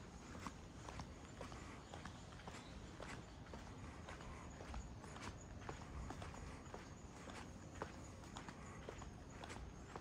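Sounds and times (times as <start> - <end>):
faint background hum: 0.0 - 10.0
footsteps on pavement: 0.2 - 10.0.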